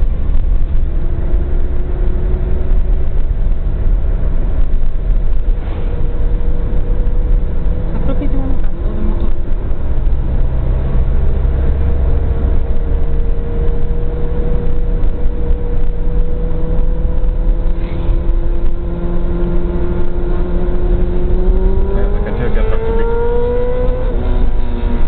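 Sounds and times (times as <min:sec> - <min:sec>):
car engine hum: 0:00.0 - 0:25.0
road and wind rumble: 0:00.0 - 0:25.0.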